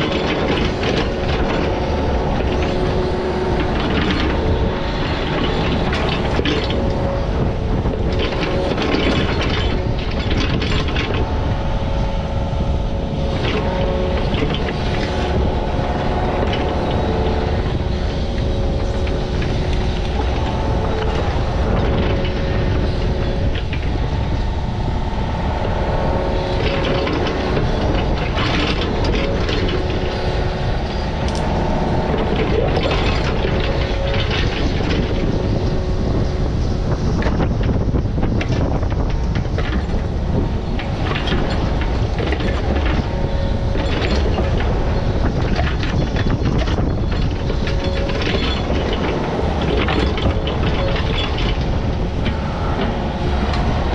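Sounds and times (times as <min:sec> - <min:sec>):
clattering knocks and scrapes: 0:00.0 - 0:53.9
digging machine engine running: 0:00.0 - 0:53.9
steady whine: 0:00.0 - 0:53.9.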